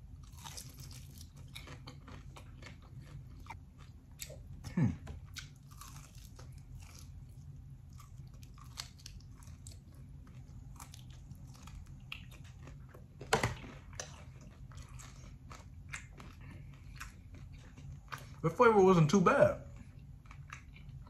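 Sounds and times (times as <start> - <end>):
person chewing crispy chicken: 0.0 - 19.1, 19.7 - 21.0.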